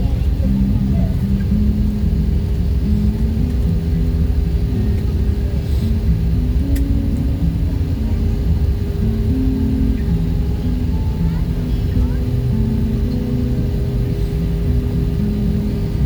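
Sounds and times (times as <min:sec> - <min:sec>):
airliner engine rumble and hum: 0:00.0 - 0:16.0.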